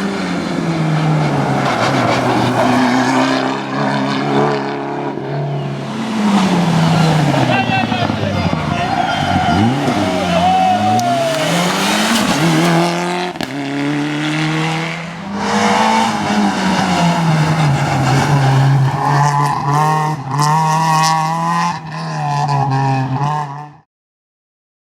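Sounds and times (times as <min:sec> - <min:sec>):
car engine shifting gears: 0:00.0 - 0:23.8.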